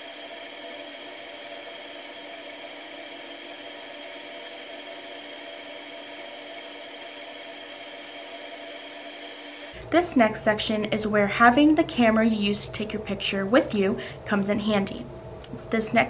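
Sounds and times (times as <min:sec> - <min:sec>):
steady whirring hum: 0:00.0 - 0:16.0.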